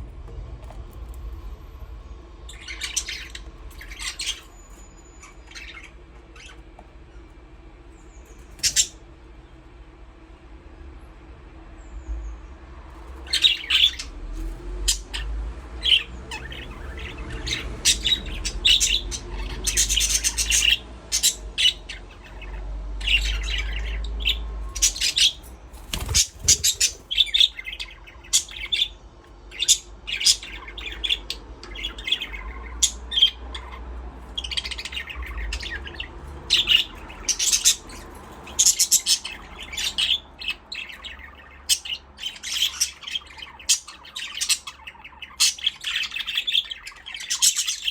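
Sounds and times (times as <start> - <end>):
low steady hum: 0.0 - 47.9
budgerigars chirping and chattering: 0.2 - 9.3, 13.0 - 47.9.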